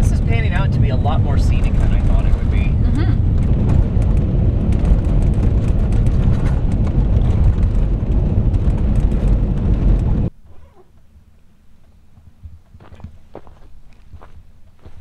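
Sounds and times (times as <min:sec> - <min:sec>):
tyre and drivetrain rumble: 0:00.0 - 0:14.9.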